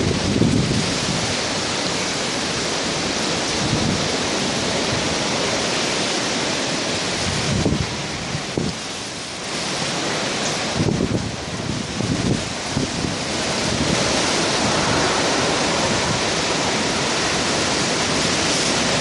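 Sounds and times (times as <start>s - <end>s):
strong wind rushing: 0.0s - 19.0s
wind gusts buffeting microphone: 0.0s - 19.0s.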